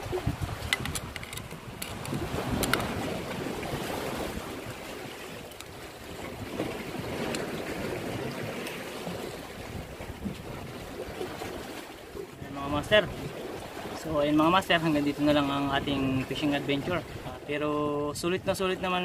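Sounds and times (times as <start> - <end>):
sea waves: 0.0 - 19.0
wind buffeting microphone: 0.0 - 19.0.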